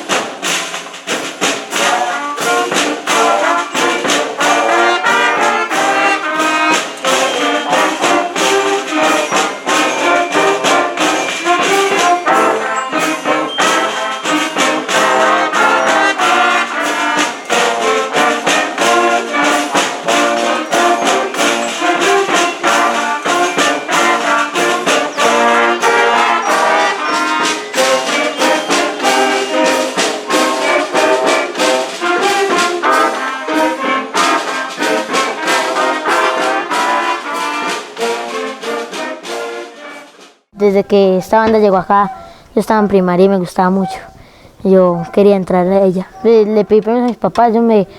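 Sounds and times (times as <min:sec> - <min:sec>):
drum and cymbal beat: 0:00.0 - 0:39.6
wind band playing: 0:00.0 - 0:40.7
trombones and trumpets: 0:00.0 - 0:47.9.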